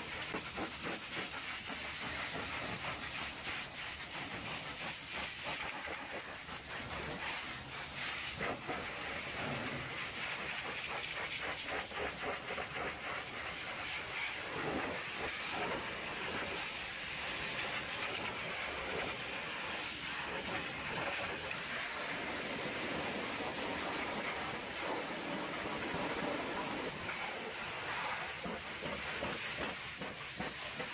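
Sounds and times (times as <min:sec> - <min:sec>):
pressure washer jet hissing: 0:00.0 - 0:30.9
spray spattering on metal: 0:00.0 - 0:30.9.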